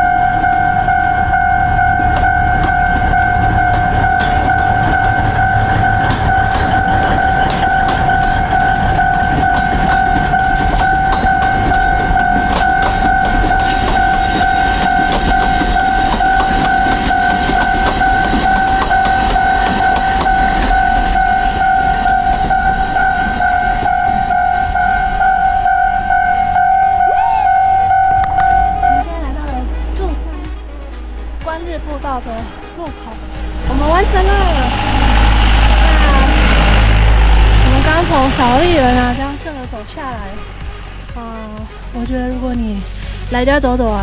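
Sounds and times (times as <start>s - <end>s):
steady high tone: 0.0s - 44.0s
train rumbling past: 0.0s - 44.0s.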